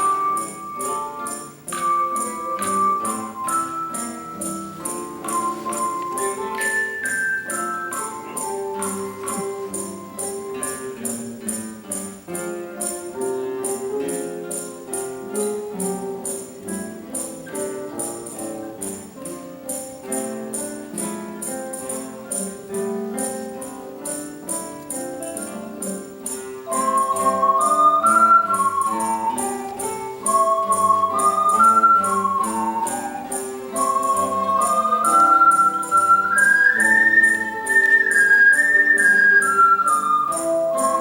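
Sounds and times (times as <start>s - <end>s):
steady high shaking beat: 0.0s - 41.0s.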